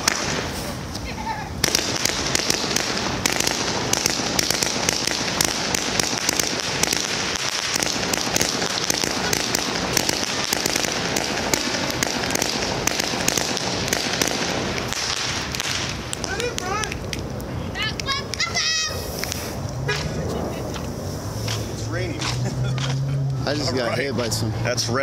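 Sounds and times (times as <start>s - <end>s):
fireworks crackle: 0.0s - 23.0s
fireworks barrage of sharp reports: 0.0s - 25.0s.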